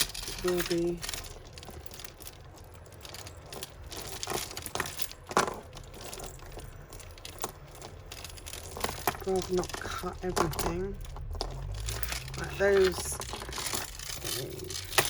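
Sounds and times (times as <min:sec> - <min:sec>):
beads and jewellery rattling: 0:00.0 - 0:15.0.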